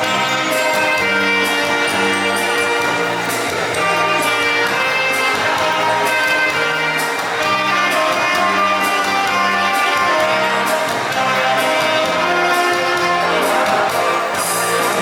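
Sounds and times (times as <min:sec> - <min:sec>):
bass line: 0:00.0 - 0:15.0
saxophone duet: 0:00.0 - 0:15.0.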